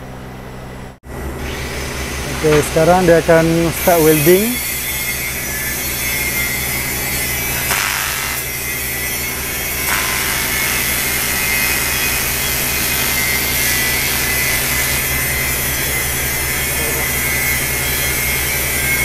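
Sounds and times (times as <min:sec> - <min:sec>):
welding arc buzzing and hissing: 0:01.2 - 0:19.0.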